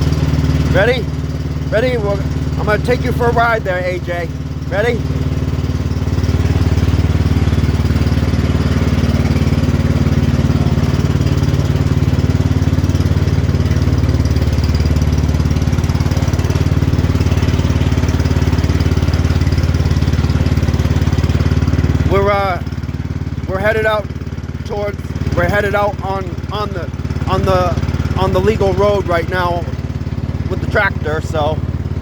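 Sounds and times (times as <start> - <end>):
garden tractor engine running: 0.0 - 32.0.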